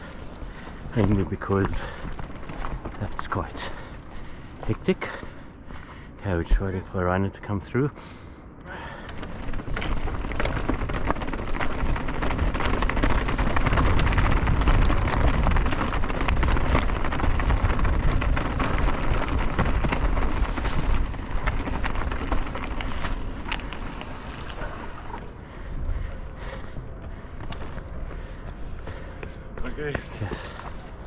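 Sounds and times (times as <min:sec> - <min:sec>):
bike tyres crunching on gravel: 0:00.0 - 0:06.1, 0:09.1 - 0:31.0.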